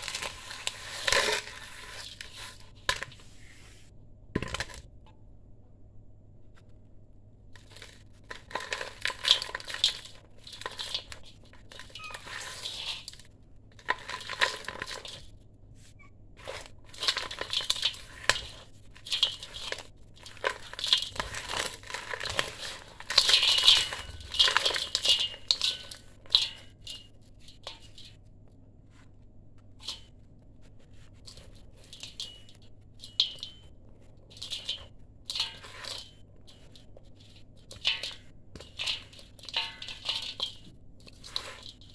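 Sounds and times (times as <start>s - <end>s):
grains pattering on steel bowl: 0.0s - 3.3s, 7.6s - 15.4s, 16.4s - 28.2s, 30.8s - 41.9s
gritty crunching of dry mix: 0.0s - 3.3s, 7.6s - 28.1s, 29.8s - 41.9s.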